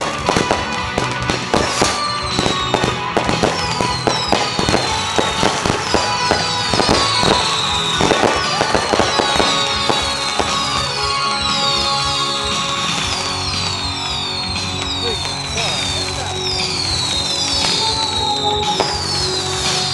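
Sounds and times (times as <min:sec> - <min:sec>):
fireworks bangs and crackles: 0:00.0 - 0:19.9
fireworks whistles falling in pitch: 0:00.0 - 0:19.9
music playing: 0:00.0 - 0:19.9.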